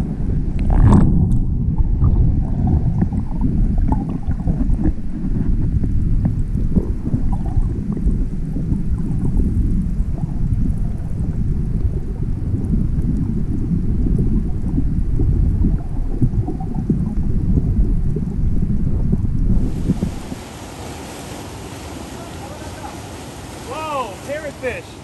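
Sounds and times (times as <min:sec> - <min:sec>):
bubbles crackling: 0:00.0 - 0:25.0
underwater surf churning rumble: 0:00.0 - 0:25.0.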